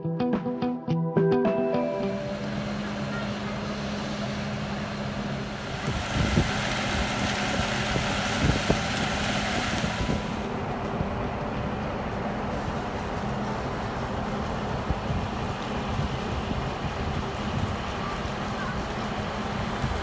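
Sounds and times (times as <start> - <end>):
steady rushing haze: 1.9 - 20.0
wind buffeting microphone: 2.2 - 20.0.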